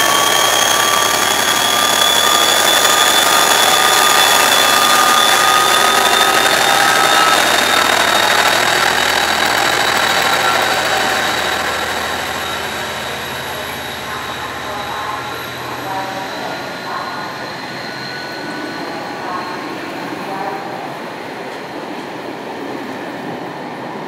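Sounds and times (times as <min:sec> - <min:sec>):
high whine rising in pitch: 0:00.0 - 0:19.8
diesel locomotive engine working: 0:00.0 - 0:24.0.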